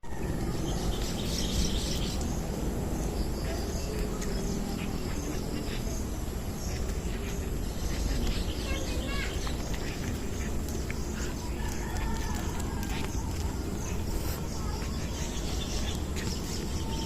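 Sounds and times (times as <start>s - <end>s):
birds chirping and calling: 0.0s - 17.0s
falling bird calls: 0.0s - 17.0s
steady low rumble: 0.1s - 17.0s.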